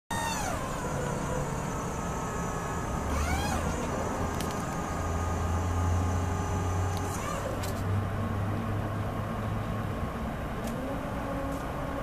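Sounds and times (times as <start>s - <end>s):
vehicle engine humming: 0.1s - 12.0s.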